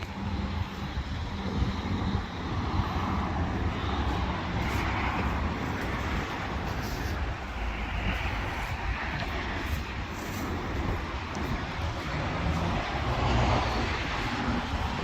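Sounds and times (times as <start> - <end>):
road traffic rumble: 0.0 - 15.0
vehicle passing: 0.2 - 15.0.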